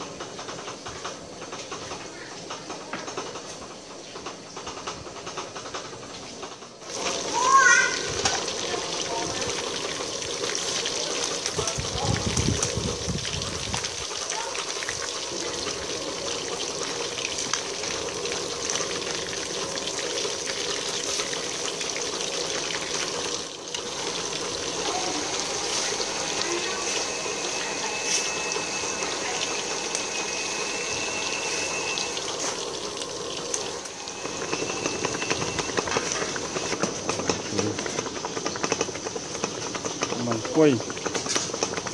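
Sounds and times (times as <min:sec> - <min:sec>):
fish sizzling in hot oil: 0:06.8 - 0:41.9.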